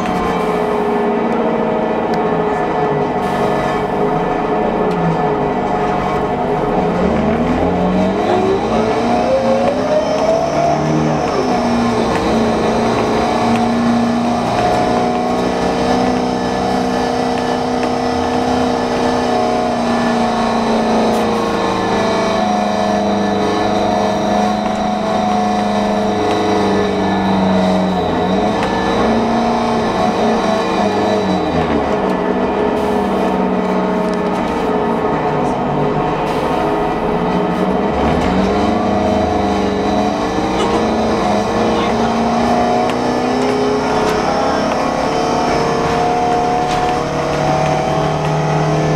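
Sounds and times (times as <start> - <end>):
bus drivetrain whine: 0.0 - 48.9.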